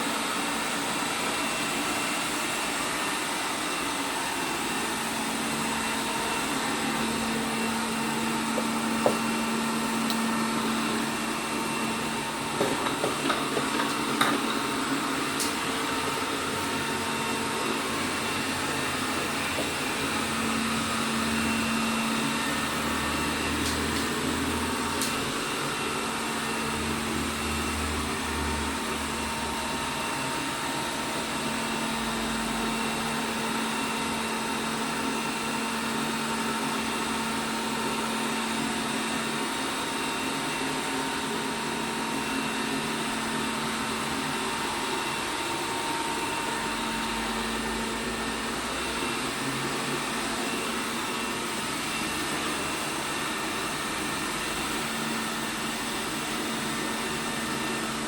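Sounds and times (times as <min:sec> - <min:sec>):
robot vacuum cleaner whirring: 0:00.0 - 0:58.0.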